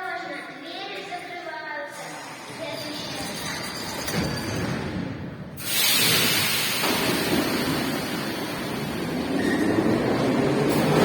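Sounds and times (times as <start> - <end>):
metro train running: 2.0 - 11.0.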